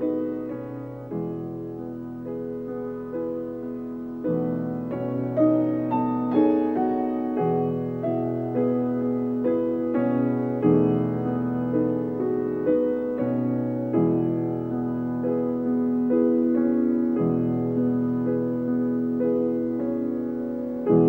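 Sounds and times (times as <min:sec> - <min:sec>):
solo piano melody: 0:00.0 - 0:21.0.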